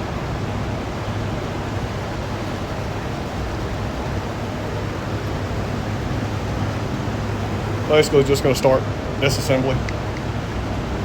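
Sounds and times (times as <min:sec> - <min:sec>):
constant low hum: 0:00.0 - 0:11.0
whooshing background noise: 0:00.0 - 0:11.0.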